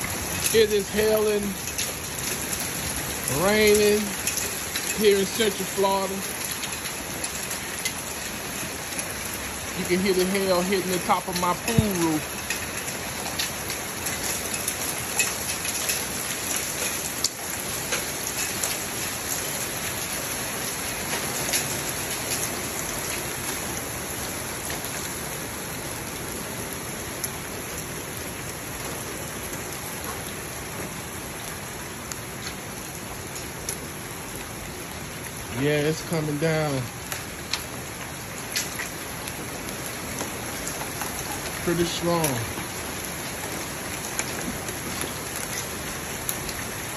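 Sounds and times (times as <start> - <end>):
hailstones ticking: 0.0 - 46.9
heavy rain on a roof: 0.0 - 46.9.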